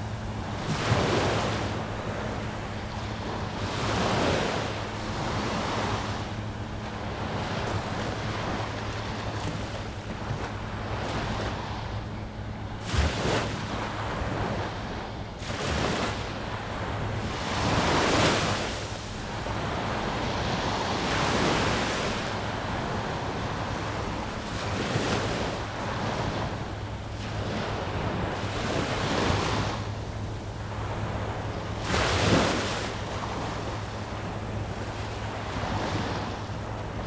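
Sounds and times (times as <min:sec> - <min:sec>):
waves breaking on beach: 0:00.0 - 0:37.0
wind rumbling on microphone: 0:00.0 - 0:37.0.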